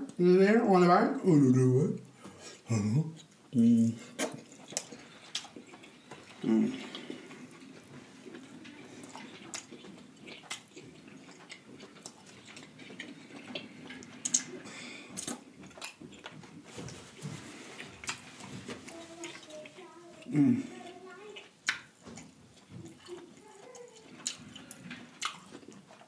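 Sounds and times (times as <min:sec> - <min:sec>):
wet chewing and lip smacking: 0:04.1 - 0:26.0.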